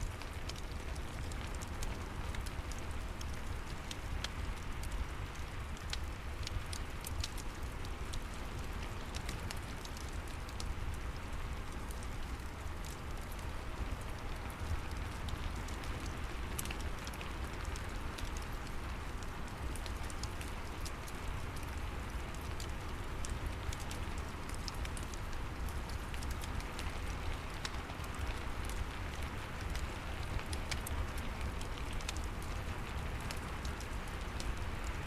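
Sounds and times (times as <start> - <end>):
steady rain falling: 0.0 - 35.0
wood fire crackling: 0.0 - 35.0.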